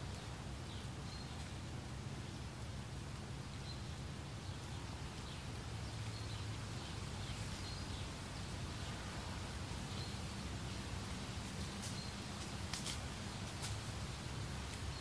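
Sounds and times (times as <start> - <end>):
wind through grass: 0.0 - 15.0.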